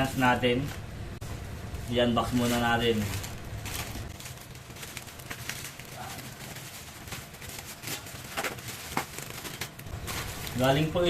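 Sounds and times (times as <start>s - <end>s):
packaging crinkling and rustling: 1.7s - 11.0s.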